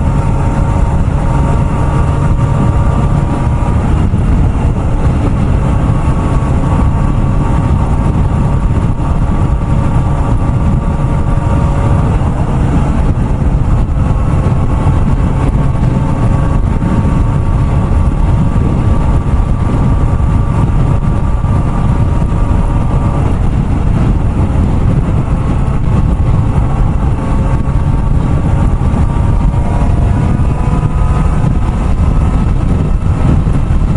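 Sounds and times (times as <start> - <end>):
heavy wind: 0.0 - 33.9
motorcycle engine cruising: 0.0 - 33.9
road rumble: 0.0 - 33.9.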